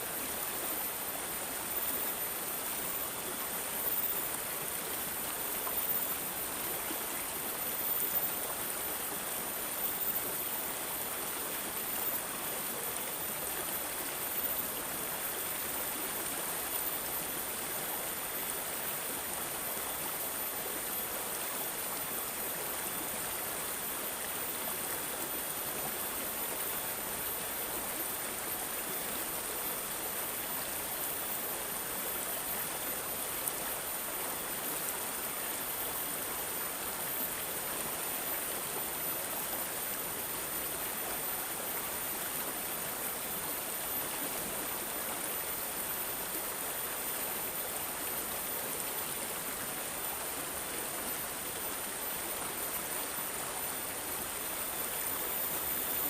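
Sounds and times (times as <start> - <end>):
water trickling and gurgling: 0.0 - 56.0.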